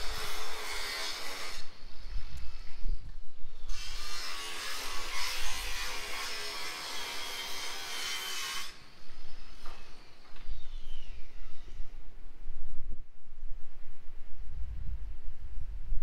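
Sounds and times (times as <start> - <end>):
wind rumble on microphone: 0.0 - 6.3, 9.0 - 16.0.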